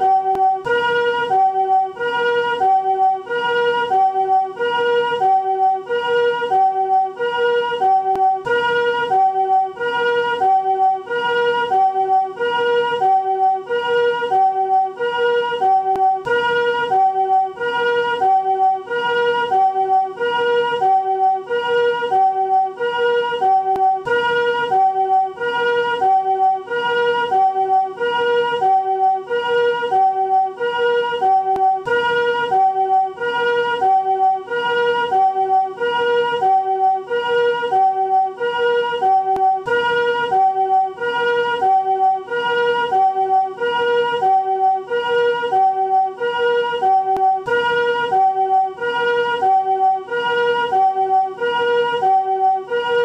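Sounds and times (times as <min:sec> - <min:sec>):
two-tone ambulance siren chords: 0:00.0 - 0:53.0.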